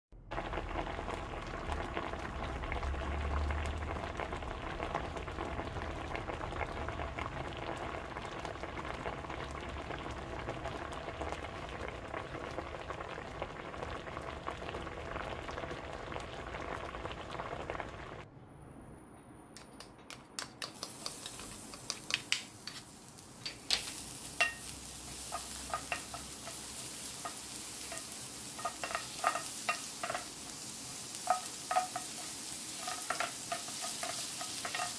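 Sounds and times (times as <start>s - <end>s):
food frying in oil: 0.2s - 18.2s, 20.4s - 34.9s.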